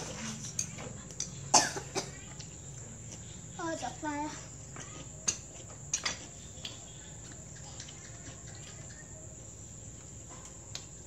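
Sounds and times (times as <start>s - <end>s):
low background noise: 0.0s - 11.0s
night insects chirping: 1.2s - 11.0s.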